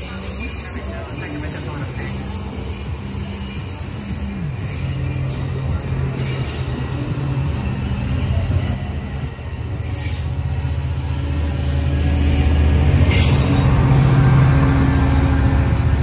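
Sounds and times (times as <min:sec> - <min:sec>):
diesel locomotive hum: 0:00.0 - 0:16.0
train wheels rumbling on rails: 0:00.0 - 0:16.0.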